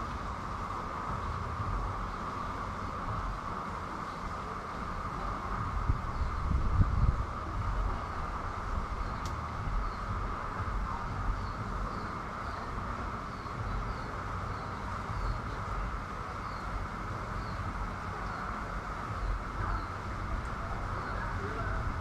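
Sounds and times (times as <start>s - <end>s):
heavy rain hissing: 0.0s - 22.0s
wind buffeting microphone: 0.0s - 22.0s.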